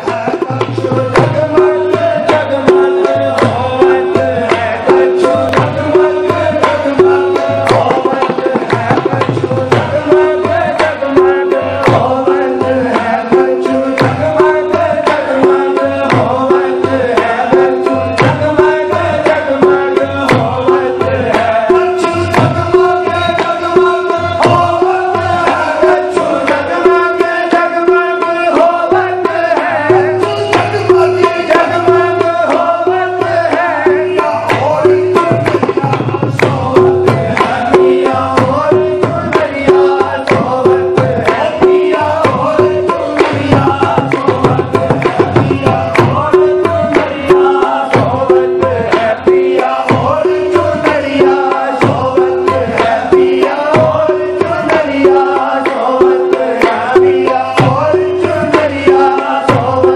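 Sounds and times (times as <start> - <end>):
harmonium melody: 0.0 - 59.9
tabla playing: 0.0 - 59.9.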